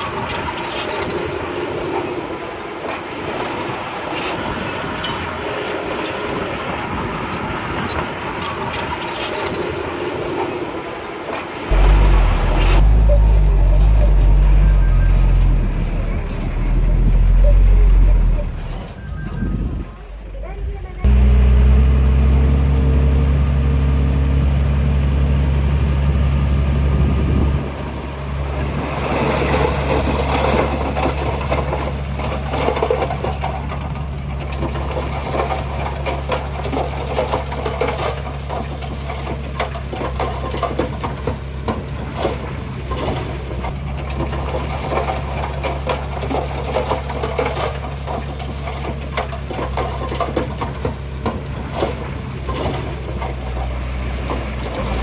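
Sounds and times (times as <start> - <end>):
continuous crackling clatter: 0.0 - 21.2, 27.6 - 55.0
heavy diesel engine running: 0.0 - 55.0.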